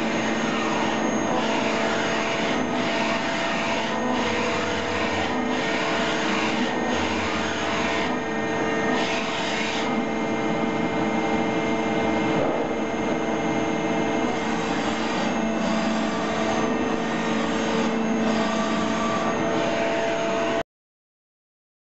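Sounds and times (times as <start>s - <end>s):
lathe machine hum: 0.0s - 20.6s.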